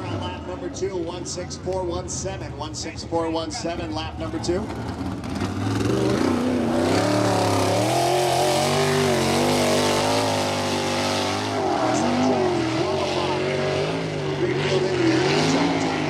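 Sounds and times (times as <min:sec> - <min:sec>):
race car engine at speed: 0:00.0 - 0:16.0.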